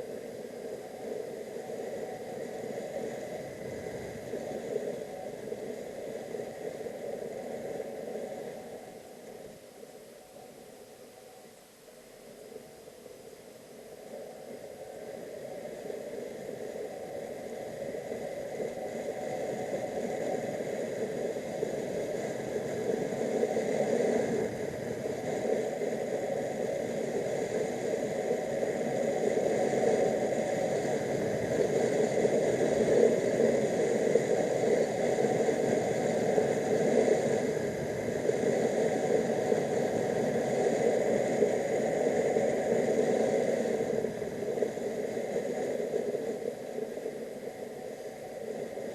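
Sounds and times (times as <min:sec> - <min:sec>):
wind noise: 0:00.0 - 0:09.5, 0:14.0 - 0:48.9.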